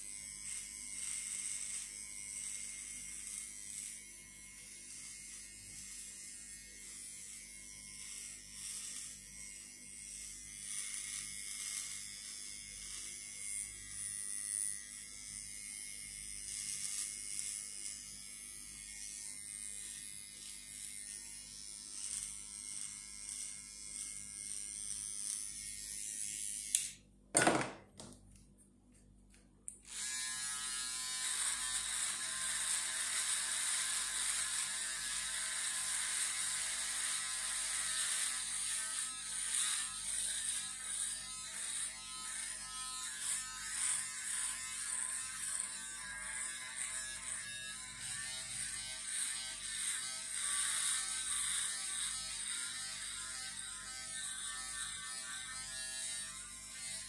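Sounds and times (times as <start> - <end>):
electric shaver buzzing: 0.0 - 27.7, 29.8 - 57.0
hair clippers buzzing: 0.0 - 28.2, 29.7 - 57.0.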